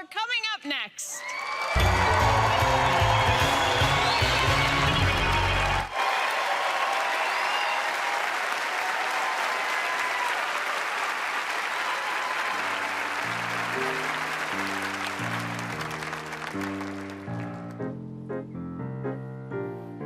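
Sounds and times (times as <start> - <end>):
audience applauding: 1.2 - 17.8.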